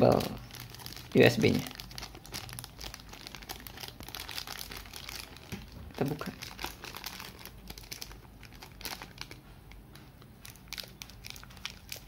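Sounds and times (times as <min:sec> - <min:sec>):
plastic bag crinkling: 0:00.0 - 0:09.8, 0:10.4 - 0:12.0.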